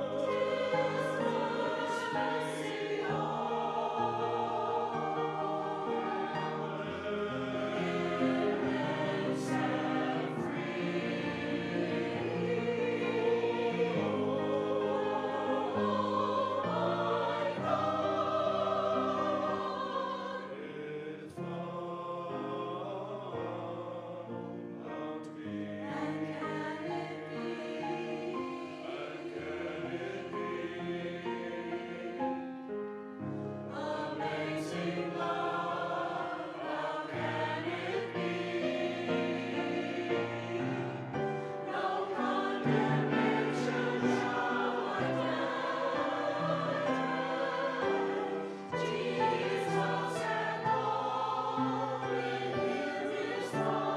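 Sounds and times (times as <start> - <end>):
choir singing held chords: 0.0 - 53.9.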